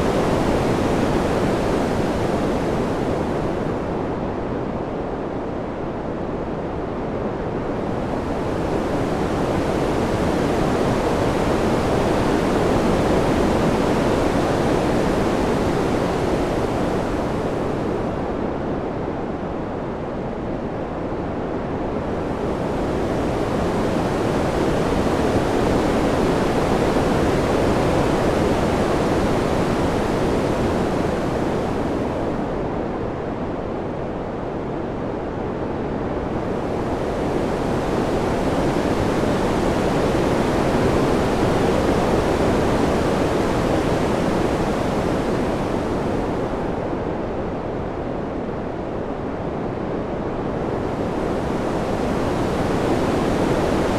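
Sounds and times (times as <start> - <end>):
rushing wind: 0.0 - 53.9.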